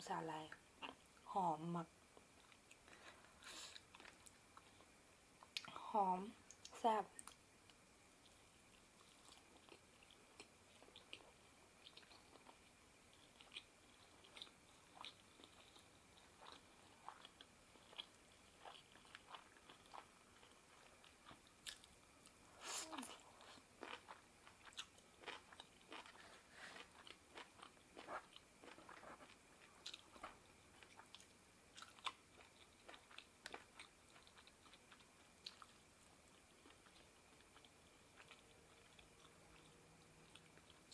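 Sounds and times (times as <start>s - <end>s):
person chewing and biting food: 7.2s - 40.9s.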